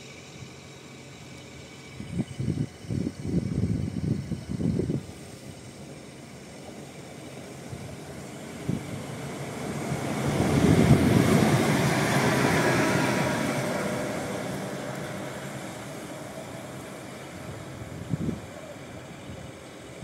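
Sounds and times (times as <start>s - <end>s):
locomotive hum and whine: 0.0s - 20.0s
train wheels rumbling on rails: 1.0s - 20.0s.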